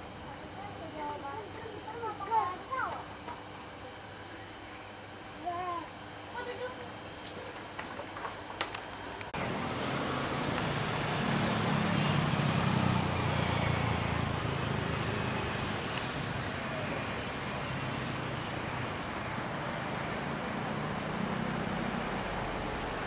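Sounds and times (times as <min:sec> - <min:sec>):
distant engines rumbling: 0:00.0 - 0:23.0.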